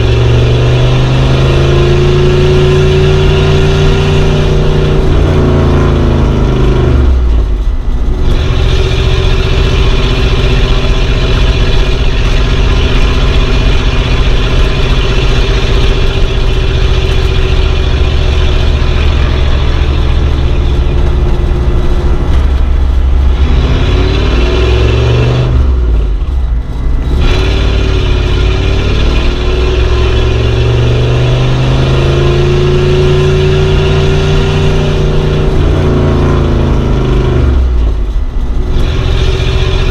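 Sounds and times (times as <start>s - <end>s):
old car engine running: 0.0s - 39.9s.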